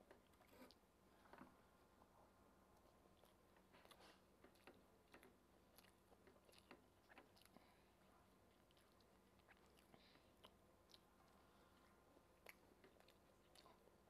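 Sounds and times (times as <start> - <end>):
person chewing food: 2.7 - 14.0.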